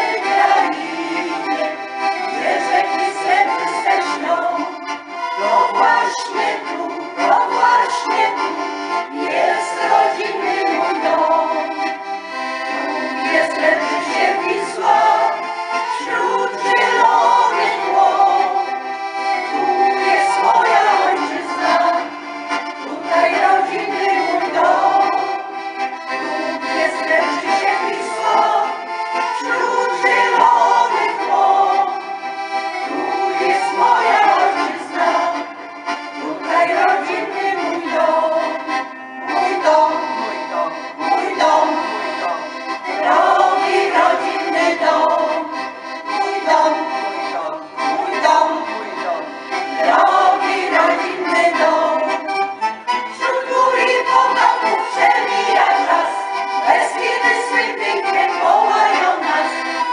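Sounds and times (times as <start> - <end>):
group singing: 0.0 - 59.9
piano accordion playing folk tune: 0.0 - 59.9.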